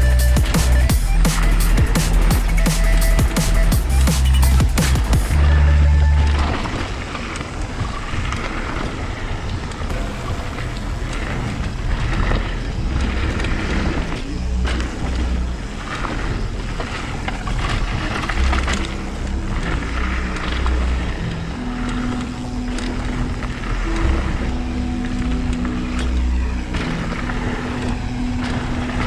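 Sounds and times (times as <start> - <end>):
wind buffeting microphone: 4.6 - 29.0.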